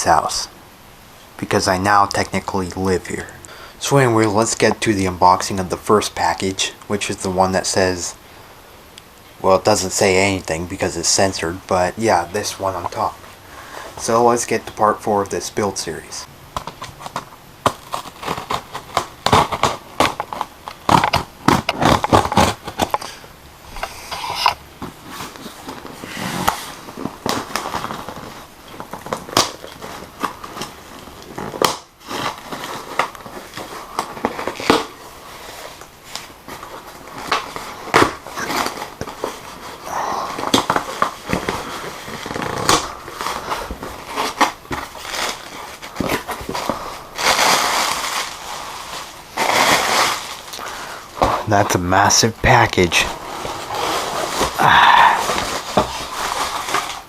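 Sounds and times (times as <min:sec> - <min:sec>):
cardboard package crackling and crinkling: 0:09.5 - 0:57.0.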